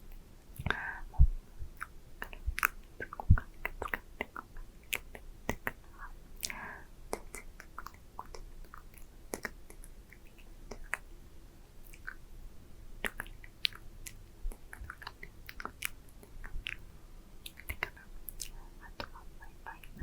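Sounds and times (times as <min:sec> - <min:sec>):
lip smacks: 0:00.5 - 0:01.0, 0:01.7 - 0:11.1, 0:11.8 - 0:12.3, 0:13.0 - 0:20.0
tongue clicks: 0:00.5 - 0:01.0, 0:01.8 - 0:11.1, 0:11.8 - 0:12.2, 0:13.0 - 0:20.0.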